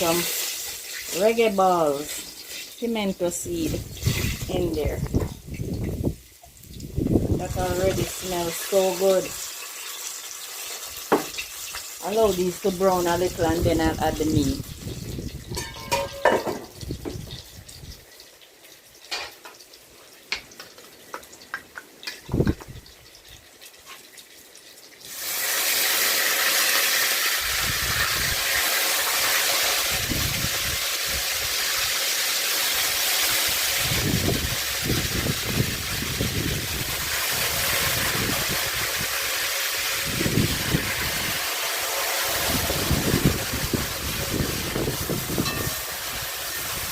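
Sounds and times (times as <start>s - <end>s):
chicken sizzling in oil: 0.0s - 46.9s
hot oil crackling: 0.0s - 46.9s.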